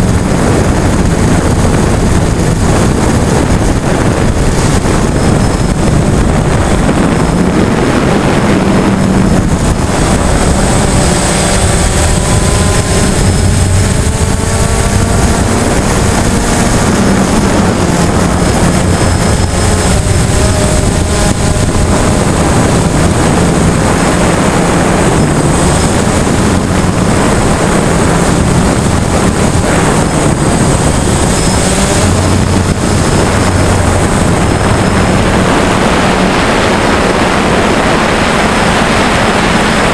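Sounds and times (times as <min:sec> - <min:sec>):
drone propellers buzzing: 0:00.0 - 0:39.9
wind rush: 0:00.0 - 0:39.9.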